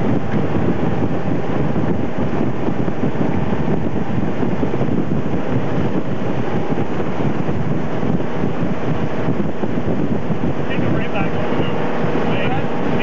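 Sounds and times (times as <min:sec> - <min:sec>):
boat engine running: 0:00.0 - 0:13.0
wake churning: 0:00.0 - 0:13.0
wind buffeting microphone: 0:00.0 - 0:13.0.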